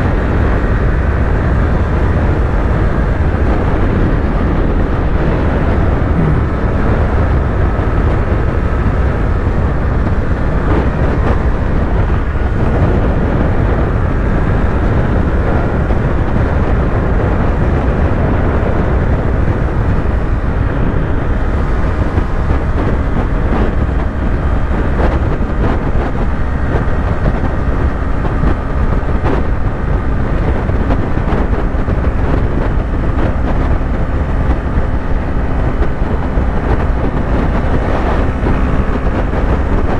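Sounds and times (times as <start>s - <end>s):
motorcycle engine cruising: 0.0s - 39.9s
rush of riding wind: 0.0s - 39.9s.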